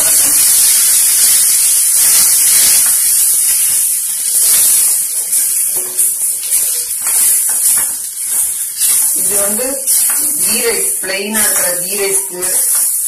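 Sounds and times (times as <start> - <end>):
onions sizzling in hot oil: 0.0 - 13.0
spatula stirring in pan: 0.0 - 13.0.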